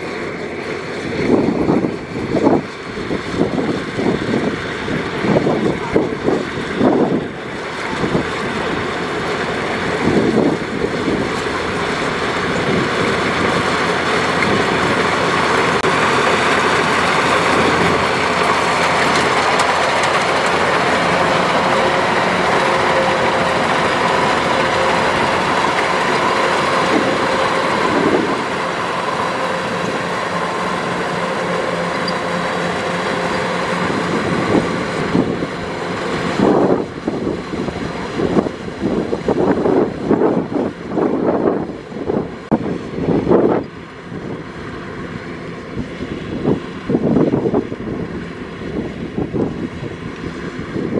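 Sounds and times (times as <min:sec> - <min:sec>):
combine harvester running: 0:00.0 - 0:50.9.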